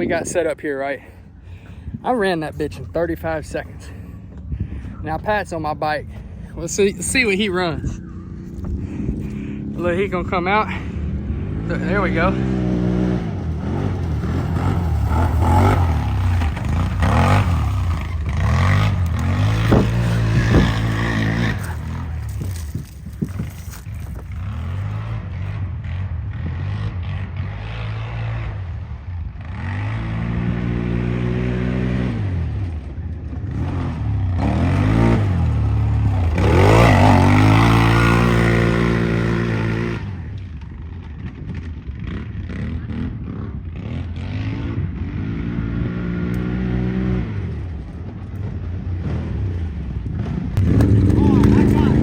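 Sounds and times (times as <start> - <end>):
atv engine revving: 4.8 - 52.0.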